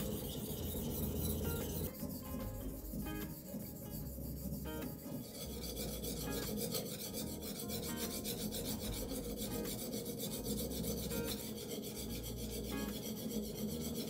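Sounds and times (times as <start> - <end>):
knife rasping on sharpening plate: 0.0 - 14.0.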